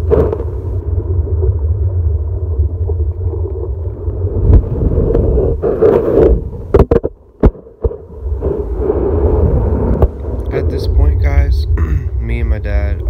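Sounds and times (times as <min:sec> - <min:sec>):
muffled underwater surf rumble: 0:00.0 - 0:13.0.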